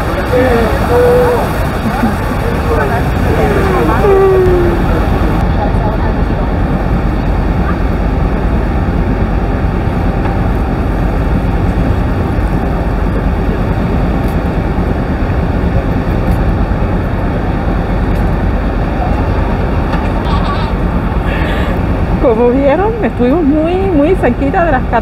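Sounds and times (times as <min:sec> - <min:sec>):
boat engine: 0:00.0 - 0:25.0
river churning: 0:00.0 - 0:25.0
waterfall roaring: 0:00.0 - 0:25.0.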